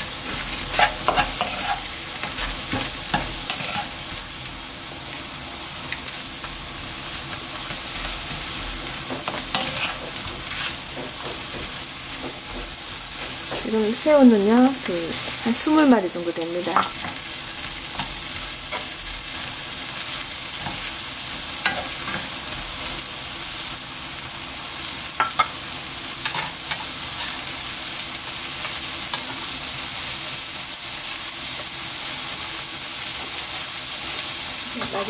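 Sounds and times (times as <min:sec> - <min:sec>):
shrimp sizzling in hot oil: 0:00.0 - 0:35.0.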